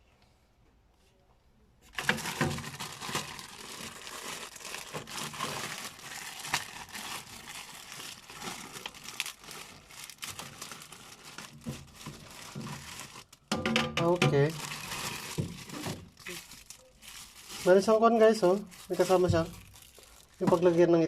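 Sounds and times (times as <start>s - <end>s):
plastic packaging crinkling: 1.9s - 21.0s.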